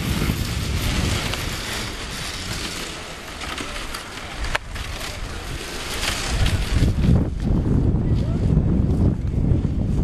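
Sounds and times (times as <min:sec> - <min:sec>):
snowmobile engine and track noise: 0:00.0 - 0:10.0.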